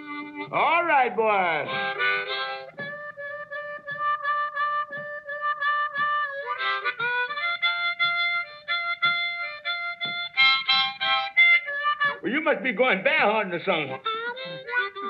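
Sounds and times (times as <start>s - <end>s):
blues harmonica playing: 0.0s - 15.0s.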